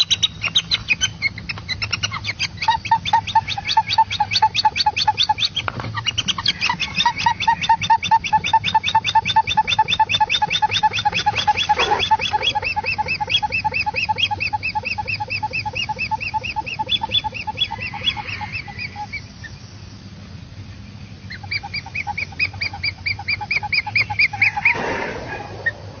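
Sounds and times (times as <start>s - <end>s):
hornbill cackling call: 0.0s - 19.6s, 21.2s - 26.0s.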